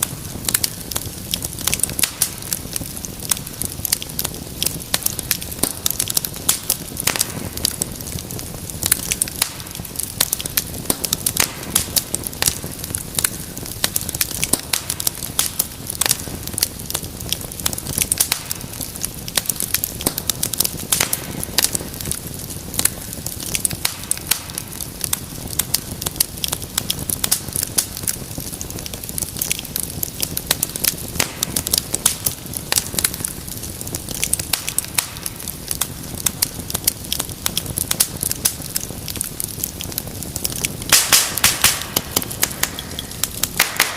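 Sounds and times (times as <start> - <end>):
fire popping and crackling: 0.0 - 43.9
low rush of flame: 0.0 - 43.9.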